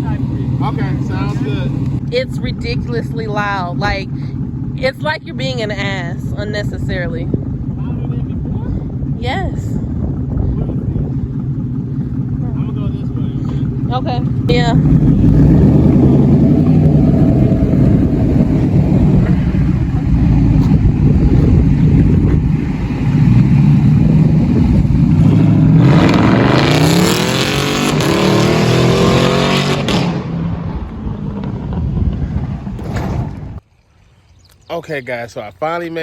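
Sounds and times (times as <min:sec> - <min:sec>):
car engine revving: 0:00.0 - 0:33.6.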